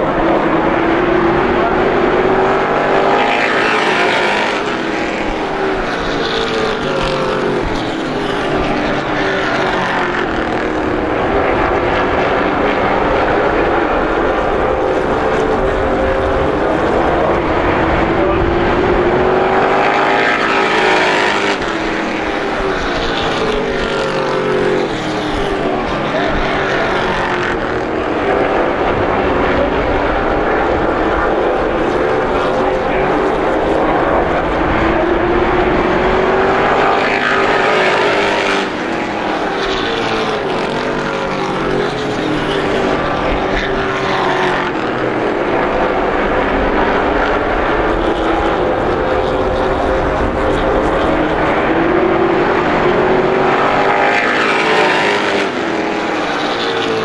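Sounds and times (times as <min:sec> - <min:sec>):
race truck engines passing: 0:00.0 - 0:57.0.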